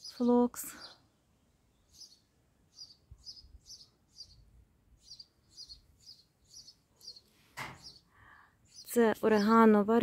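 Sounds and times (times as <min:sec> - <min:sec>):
bird chirping faintly: 0:00.0 - 0:09.6.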